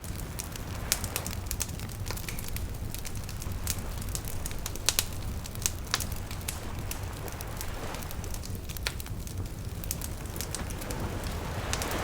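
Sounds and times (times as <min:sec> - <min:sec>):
bonfire crackling and popping: 0:00.0 - 0:12.0
ocean waves rumbling: 0:00.0 - 0:12.0.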